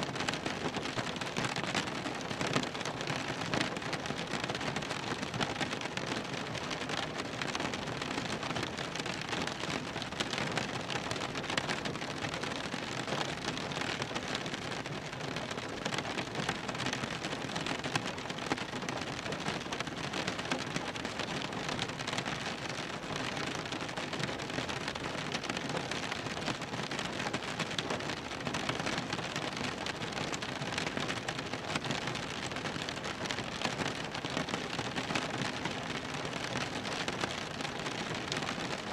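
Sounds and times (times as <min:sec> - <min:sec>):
rain drumming on car roof: 0:00.1 - 0:38.9.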